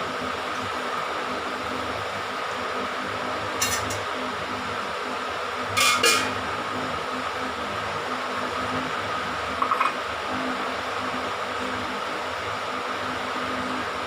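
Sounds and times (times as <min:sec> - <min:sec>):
steady background whir: 0:00.0 - 0:14.0.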